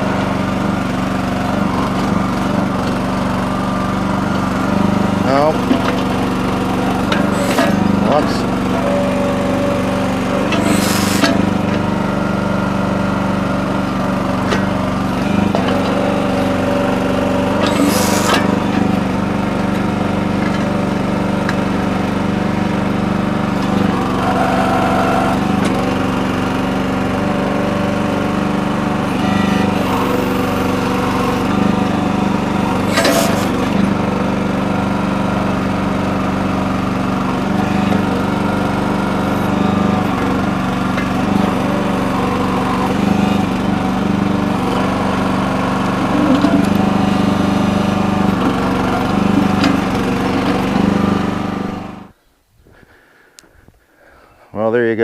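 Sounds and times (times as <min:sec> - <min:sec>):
small gasoline engine running: 0:00.0 - 0:52.2.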